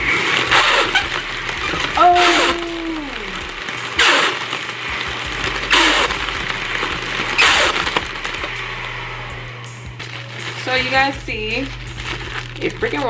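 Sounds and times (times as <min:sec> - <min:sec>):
air cushion machine humming: 0:00.0 - 0:13.0
crinkly rush of film filling: 0:00.0 - 0:13.0.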